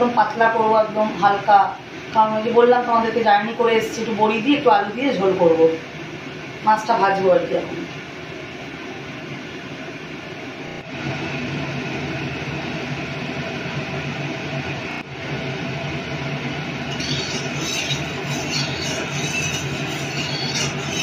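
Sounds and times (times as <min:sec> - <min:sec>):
stove burner rushing hum: 0:00.0 - 0:21.0.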